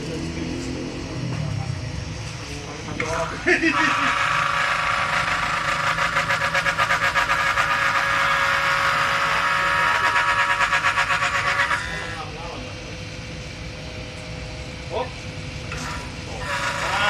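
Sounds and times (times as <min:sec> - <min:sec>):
engraving machine spindle whine: 0:00.0 - 0:17.0.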